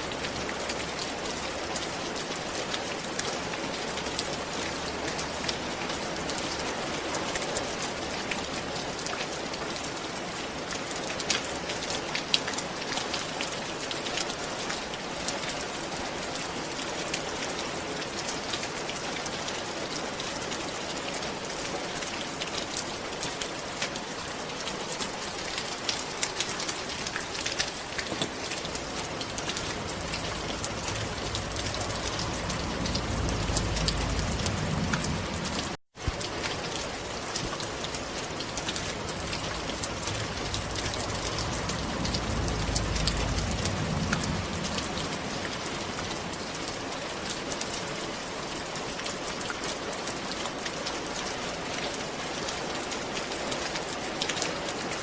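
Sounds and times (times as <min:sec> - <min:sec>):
rain falling on a roof: 0:00.0 - 0:55.0
raindrops ticking on roof: 0:00.0 - 0:55.0.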